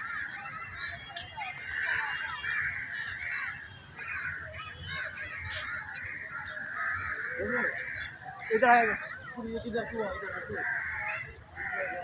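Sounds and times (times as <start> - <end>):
birds chattering: 0.0 - 12.0.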